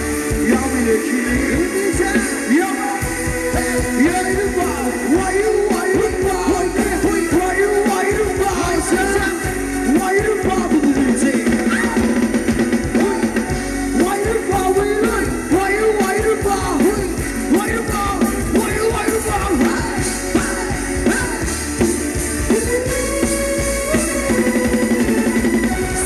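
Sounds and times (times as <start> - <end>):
band melody line: 0.0 - 26.0
steady drum beat: 0.0 - 26.0.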